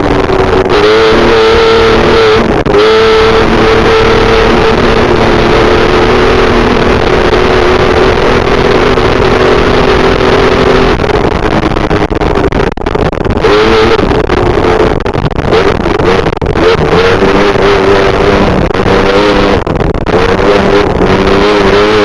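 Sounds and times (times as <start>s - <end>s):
heavy wind: 0.0s - 22.0s
road noise: 0.0s - 22.0s
truck engine revving hard: 0.0s - 22.0s.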